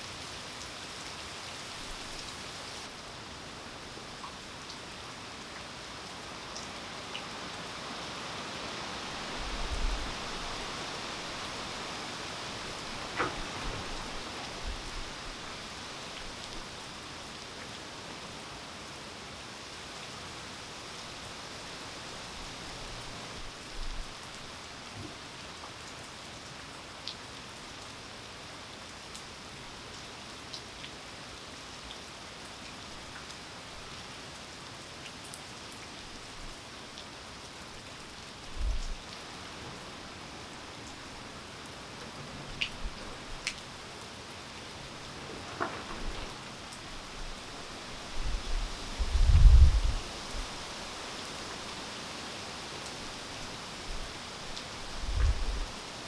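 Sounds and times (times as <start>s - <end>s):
rain falling on ground: 0.0s - 56.0s.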